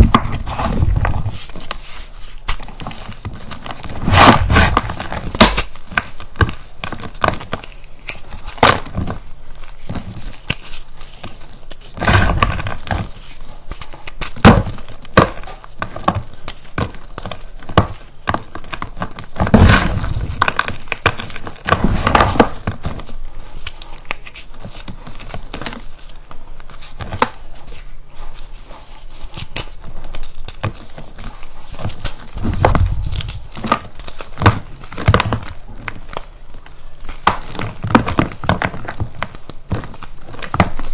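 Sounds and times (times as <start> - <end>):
chalk pieces falling thuds: 0.0 - 25.9, 29.2 - 36.3
chalk crunching and crackling: 0.0 - 40.9.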